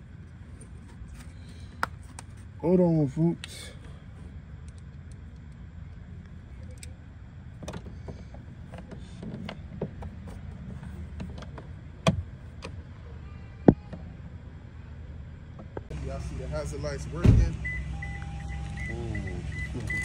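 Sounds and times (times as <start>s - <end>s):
car idling: 0.0s - 13.0s, 14.4s - 20.0s.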